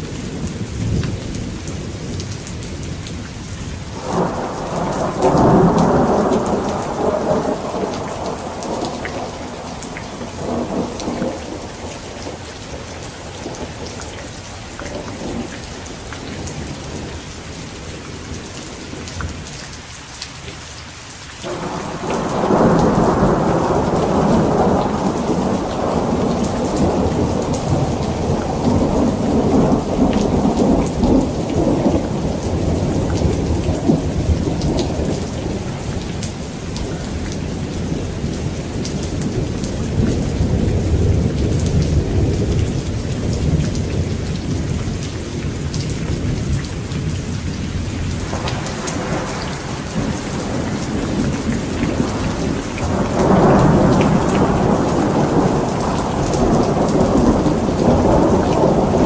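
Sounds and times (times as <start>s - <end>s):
steady rain falling: 0.0s - 59.0s
thunder rumbling: 3.9s - 14.1s, 21.5s - 59.0s.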